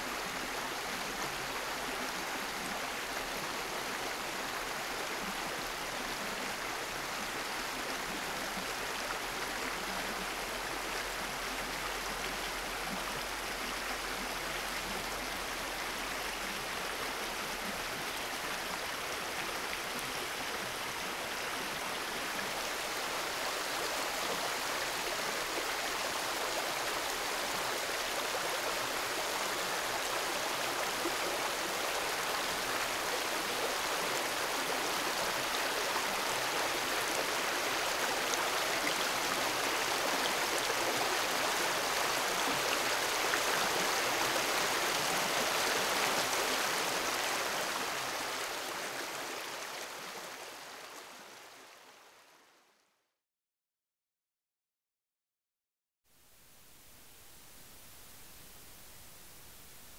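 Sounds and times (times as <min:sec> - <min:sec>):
creek water running: 0:00.0 - 0:52.1.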